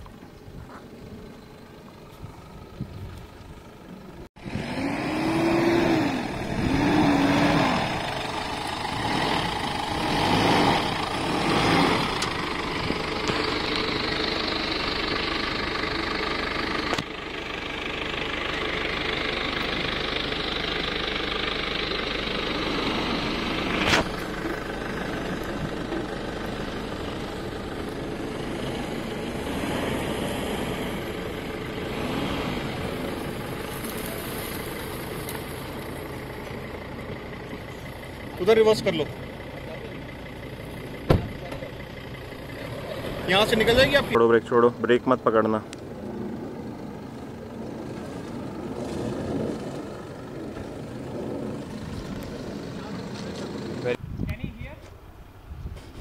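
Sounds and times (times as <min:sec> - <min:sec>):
car engine revving: 0:04.4 - 0:54.0.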